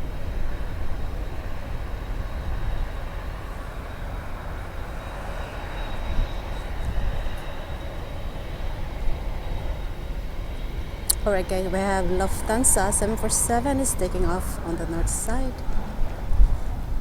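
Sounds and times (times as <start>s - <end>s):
jet engine rumble on takeoff: 0.0s - 17.0s.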